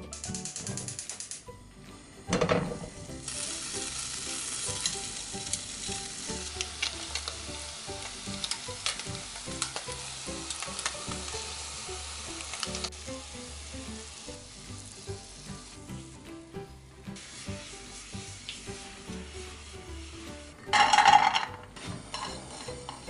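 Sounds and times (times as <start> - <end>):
meat sizzling in oil: 2.1 - 23.0.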